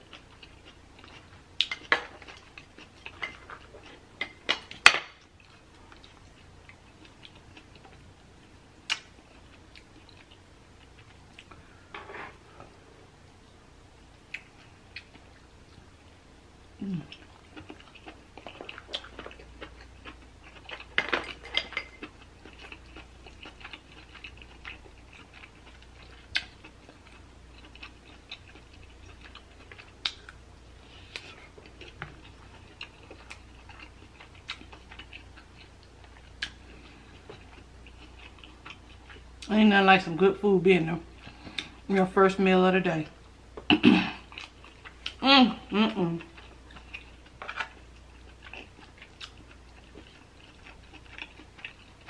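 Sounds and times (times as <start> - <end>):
close chewing and mouth sounds: 0.0 - 11.6, 14.2 - 15.9, 16.8 - 52.0.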